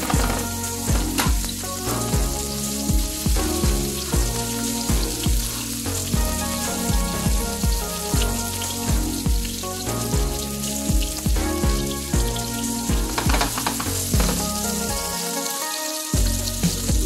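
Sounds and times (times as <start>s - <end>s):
background music with steady beat: 0.0s - 17.0s.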